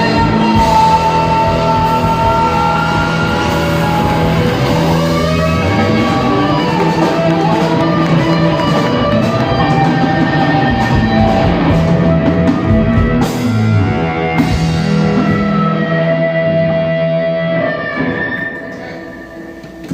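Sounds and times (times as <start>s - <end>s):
live rock band playing: 0.0s - 19.9s.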